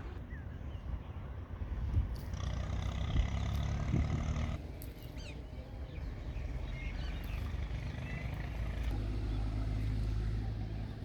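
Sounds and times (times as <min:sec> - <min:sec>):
engine hum: 0:00.0 - 0:00.6, 0:01.4 - 0:11.0
low outdoor rumbling: 0:00.0 - 0:11.0.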